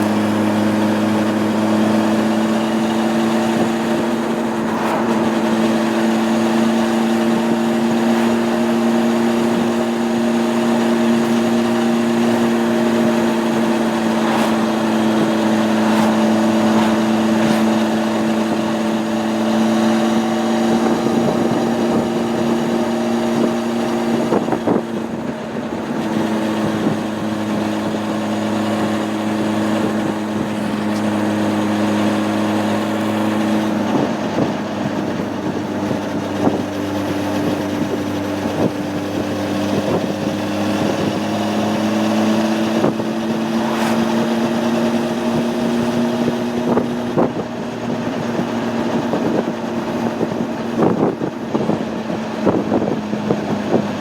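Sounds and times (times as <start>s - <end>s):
motorcycle engine running steadily: 0.0s - 54.0s.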